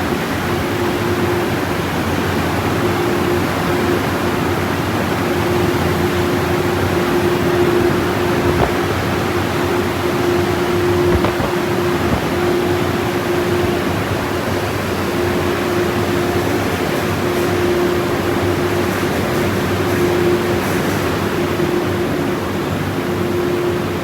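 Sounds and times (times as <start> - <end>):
car wash dryer blowers rushing air: 0.0 - 24.0
steady hum: 0.0 - 24.0.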